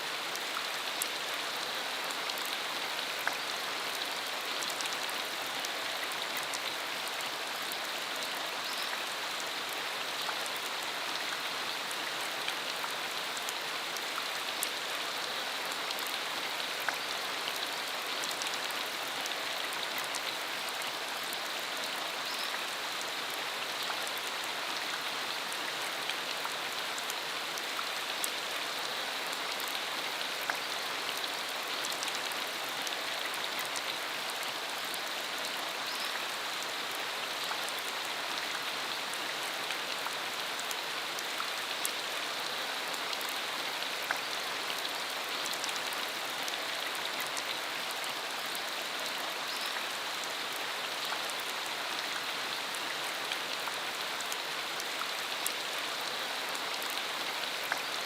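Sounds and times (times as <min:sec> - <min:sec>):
rain falling on road: 0:00.0 - 0:58.0.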